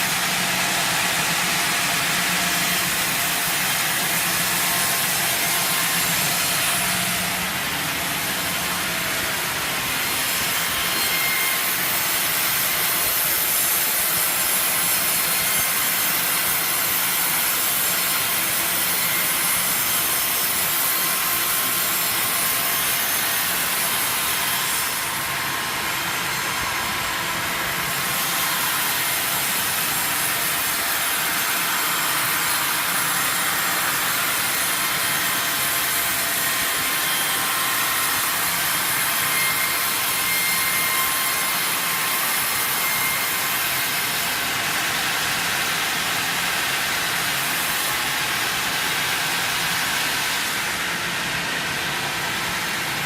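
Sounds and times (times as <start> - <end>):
sawmill saw cutting wood: 0.0 - 53.0.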